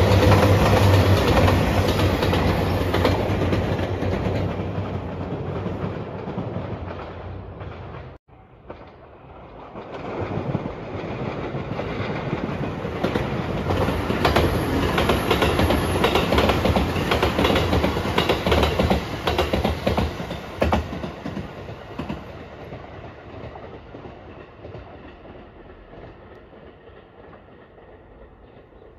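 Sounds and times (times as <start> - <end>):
electric train passing: 0.0 - 28.9.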